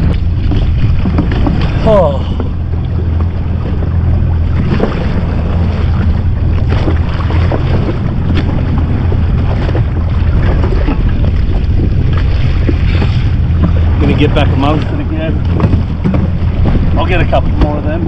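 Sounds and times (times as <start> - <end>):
jet ski engine running: 0.0 - 18.0
water slapping: 0.0 - 18.0
wind buffeting microphone: 0.0 - 18.0.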